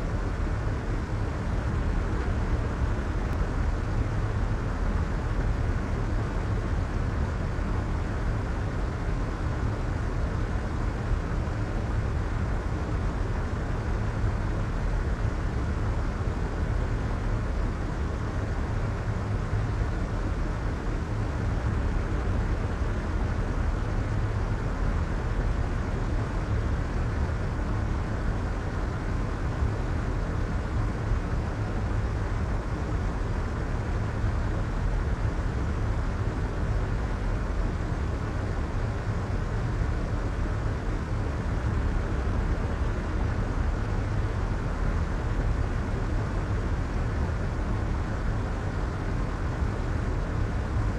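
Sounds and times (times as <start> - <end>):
soft white noise hiss: 0.0 - 50.9.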